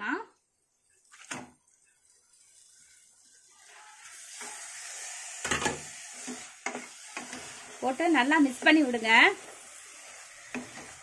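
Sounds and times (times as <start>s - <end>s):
chicken sizzling in a pan: 1.8s - 11.0s.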